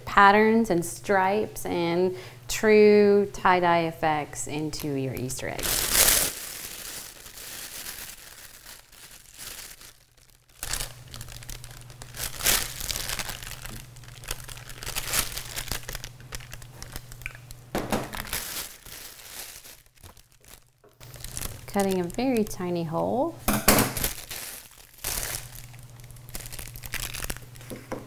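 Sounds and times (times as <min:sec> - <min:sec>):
plastic piping bag crinkling: 0:04.1 - 0:28.0.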